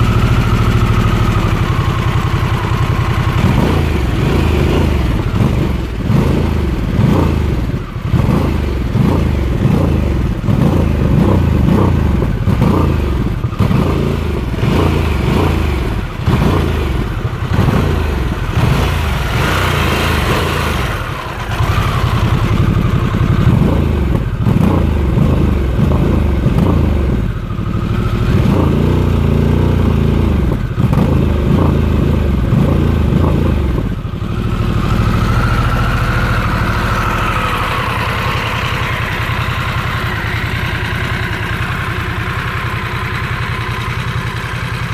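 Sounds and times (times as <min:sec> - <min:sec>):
motorcycle engine revving and idling: 0:00.0 - 0:44.9.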